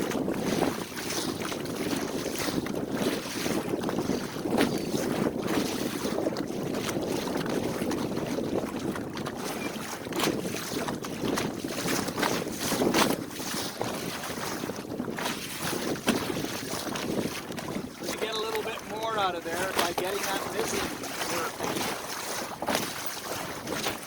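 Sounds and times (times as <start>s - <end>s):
water rushing past hull: 0.0s - 24.0s
wind buffeting microphone: 0.0s - 24.0s.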